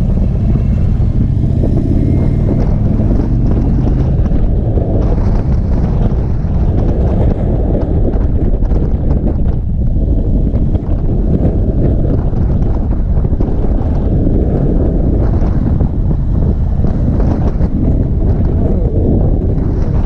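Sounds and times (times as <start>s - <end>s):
motorcycle engine running: 0.0s - 20.0s
wind over microphone: 0.0s - 20.0s.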